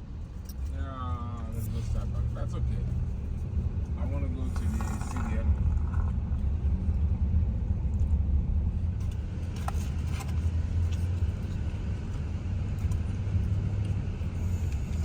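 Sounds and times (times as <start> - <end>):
car road rumble from inside: 0.0 - 15.0.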